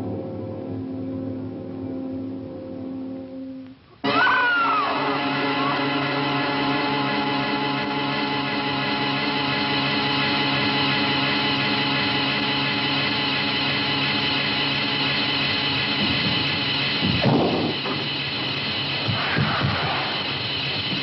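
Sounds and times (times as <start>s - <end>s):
dissonant horror music drone: 4.0s - 21.0s.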